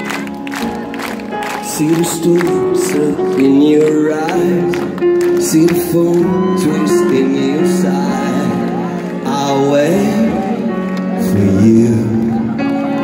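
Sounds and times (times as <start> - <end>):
person singing: 1.4 - 13.0.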